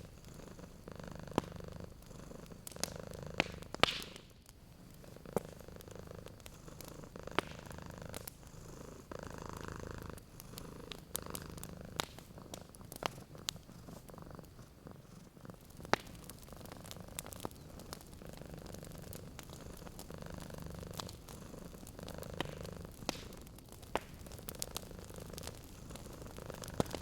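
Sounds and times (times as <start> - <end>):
cat purring: 0.0 - 27.0
wood fire popping and crackling: 0.0 - 27.0.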